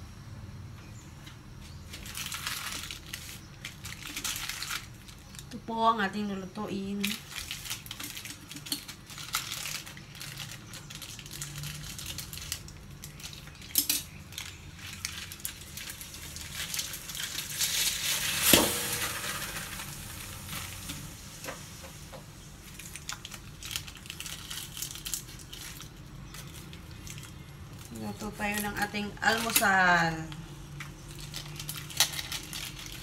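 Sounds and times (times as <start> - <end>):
plastic bag crinkling: 1.9 - 21.3, 22.5 - 30.0, 30.7 - 33.0.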